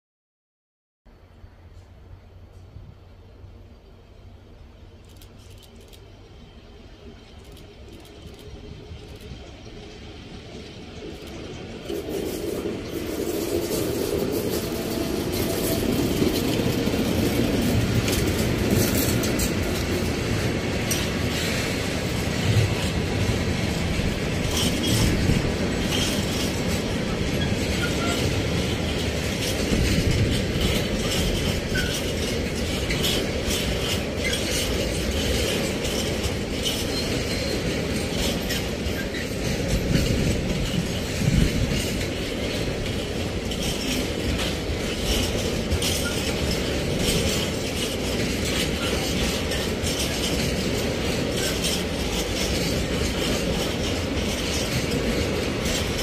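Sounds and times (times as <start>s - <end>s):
train wheels rumbling on rails: 1.1s - 56.0s
wagon wheels clicking and clattering: 9.1s - 56.0s.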